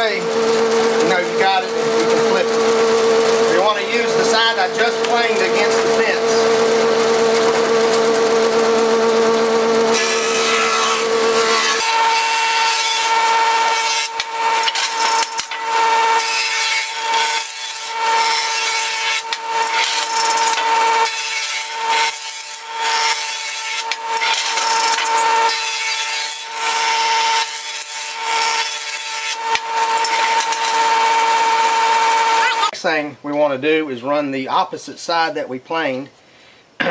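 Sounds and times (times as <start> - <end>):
jointer knives cutting wood: 0.0 - 32.7
jointer motor whine: 0.0 - 32.7.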